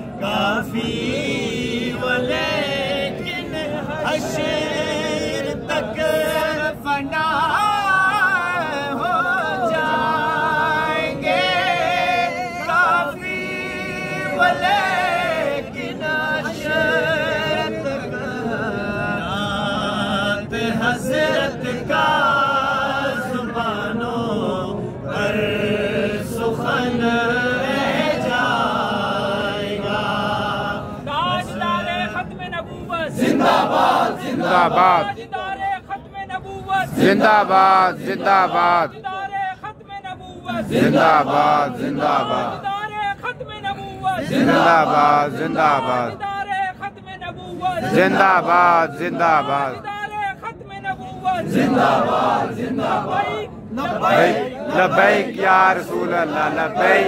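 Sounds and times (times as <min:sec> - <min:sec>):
men singing unaccompanied: 0:00.0 - 0:32.3, 0:32.9 - 0:35.6, 0:36.7 - 0:39.3, 0:40.4 - 0:43.3, 0:44.0 - 0:46.2, 0:47.7 - 0:49.8, 0:51.3 - 0:57.0.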